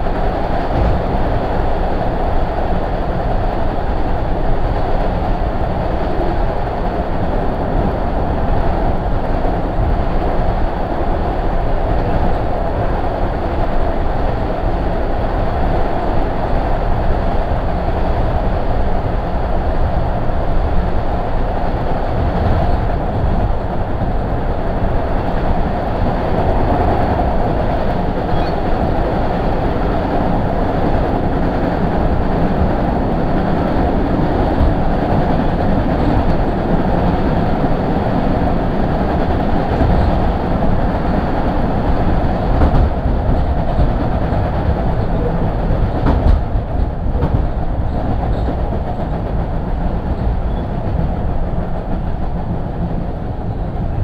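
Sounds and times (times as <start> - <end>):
subway wheels rumbling on rail: 0.0 - 54.0.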